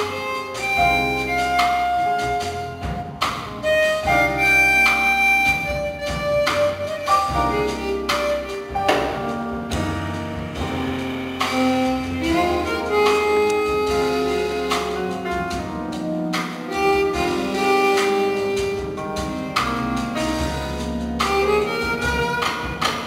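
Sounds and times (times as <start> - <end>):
double bass: 0.0 - 23.0
drums: 0.0 - 23.0
grand piano chords: 0.0 - 23.0.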